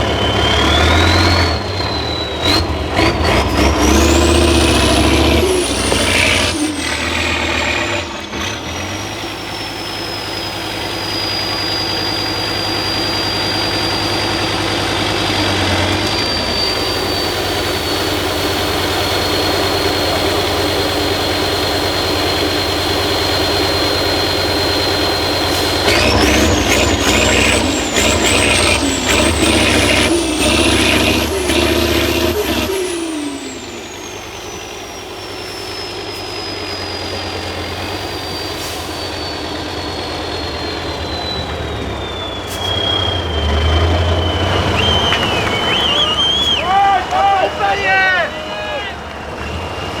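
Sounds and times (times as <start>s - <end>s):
diesel truck engine revving: 0.0s - 50.0s
high engine whistle: 0.0s - 50.0s.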